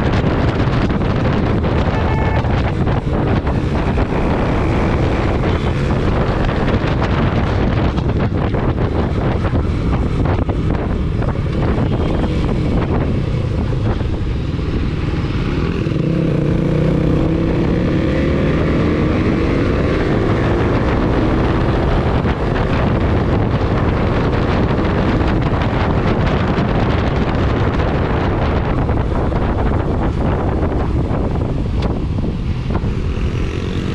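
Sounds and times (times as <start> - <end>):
motorcycle engine: 0.0 - 33.9
wind rumble on microphone: 0.0 - 33.9.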